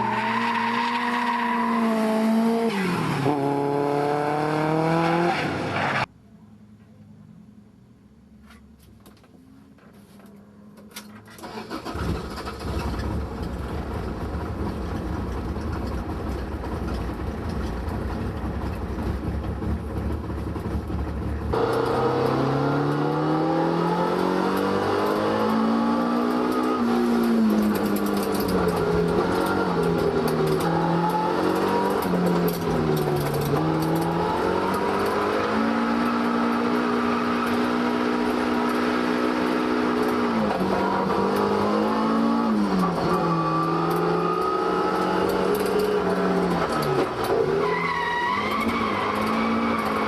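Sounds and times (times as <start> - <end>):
car engine revving: 1.3 - 5.8, 11.4 - 50.0.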